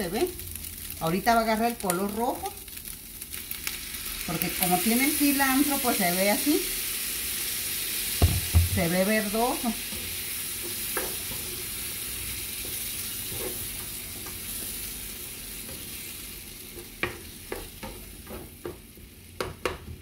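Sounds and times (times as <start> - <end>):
beef sizzling in a frying pan: 0.0 - 20.0.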